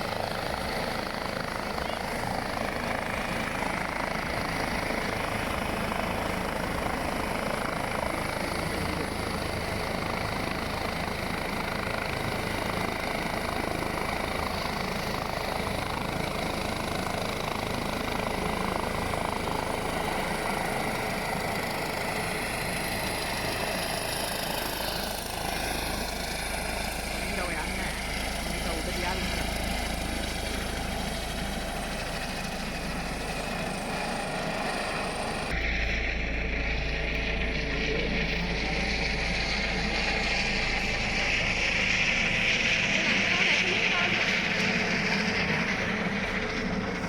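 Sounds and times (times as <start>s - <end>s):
steady mechanical drone: 0.0s - 47.0s.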